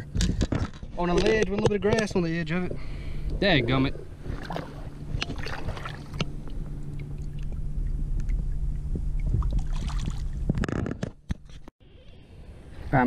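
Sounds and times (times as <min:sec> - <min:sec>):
steady low hum: 0:00.0 - 0:13.0
water splashing and lapping: 0:02.0 - 0:13.0.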